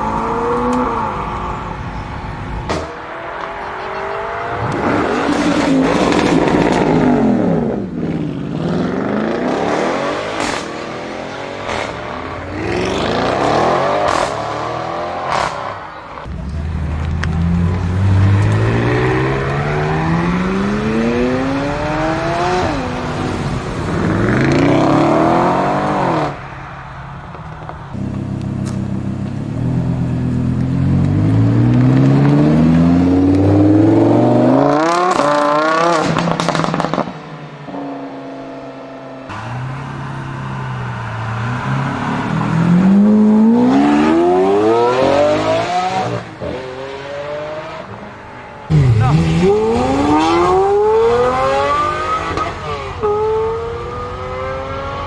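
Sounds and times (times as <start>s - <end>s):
supercar engines accelerating: 0.0s - 26.4s, 28.0s - 55.0s.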